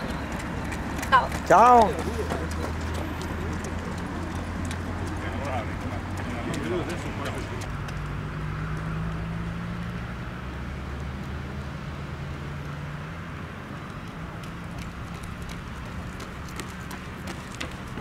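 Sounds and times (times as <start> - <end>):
outdoor street noise: 0.0 - 18.0
vehicle engine humming: 0.0 - 18.0.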